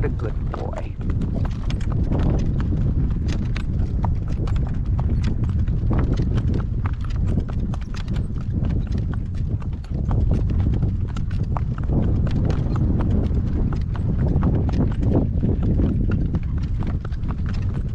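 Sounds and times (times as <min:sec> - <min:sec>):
horse hooves clip-clopping: 0:00.0 - 0:17.9
wind buffeting microphone: 0:00.0 - 0:17.9.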